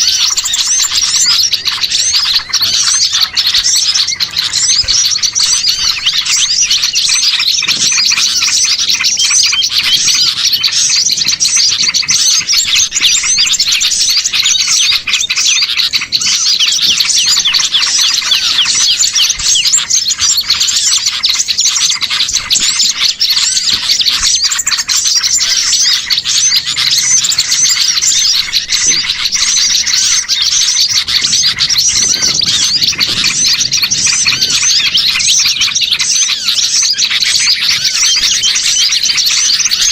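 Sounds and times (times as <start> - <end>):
chorus of small songbirds chirping: 0.0 - 39.9.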